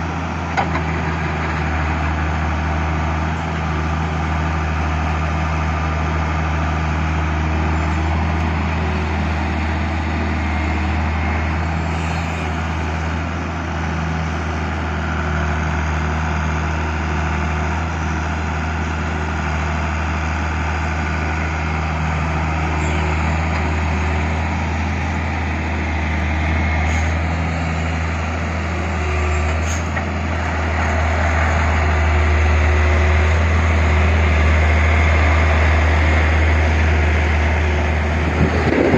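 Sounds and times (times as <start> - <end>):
heavy truck diesel engine: 0.0 - 38.9.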